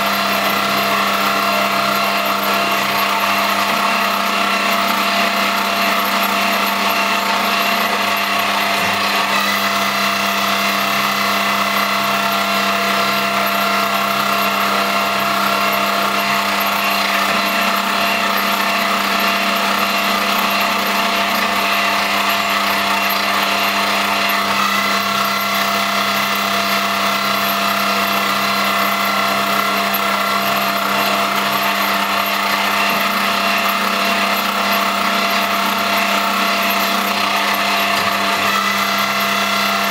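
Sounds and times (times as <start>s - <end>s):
milling machine whining: 0.0s - 39.9s.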